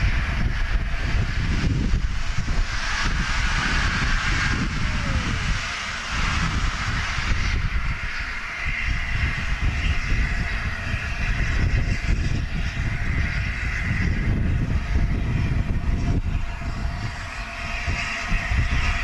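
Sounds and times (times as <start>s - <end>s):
steam locomotive hissing and rumbling: 0.0s - 19.0s.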